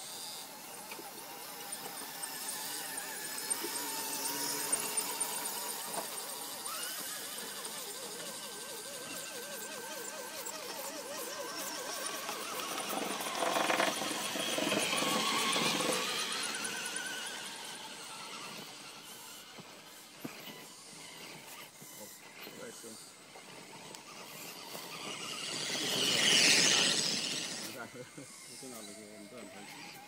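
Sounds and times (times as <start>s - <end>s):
toy truck motors whining: 0.0s - 30.0s.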